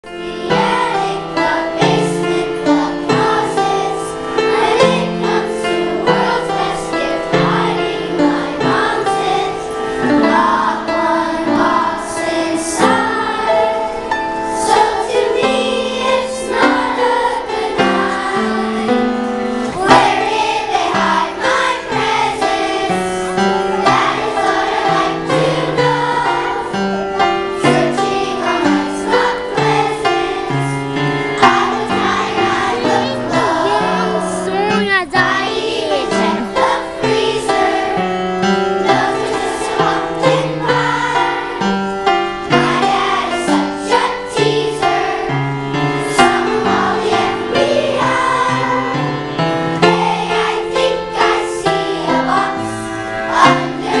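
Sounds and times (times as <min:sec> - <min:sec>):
children's choir singing: 0:00.0 - 0:54.0
instrumental accompaniment: 0:00.1 - 0:54.0.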